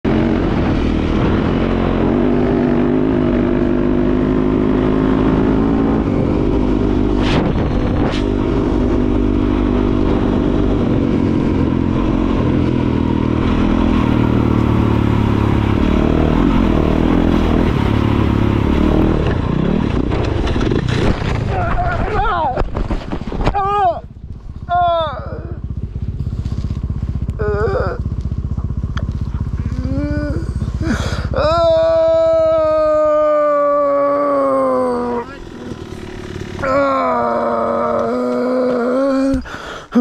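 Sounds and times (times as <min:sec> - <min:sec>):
dirt bike engine revving: 0:00.0 - 0:22.1, 0:24.9 - 0:39.4.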